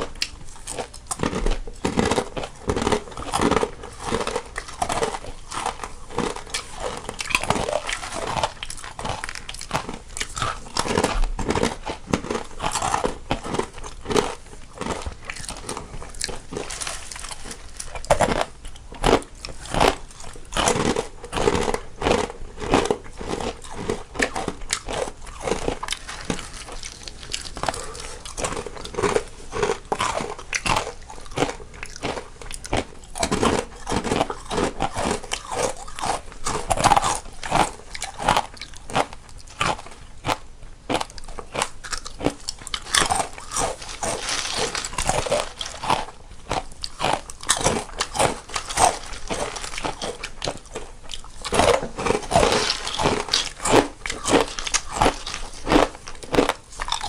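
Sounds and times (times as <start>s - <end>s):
people chewing crisp snacks: 0.0s - 57.0s.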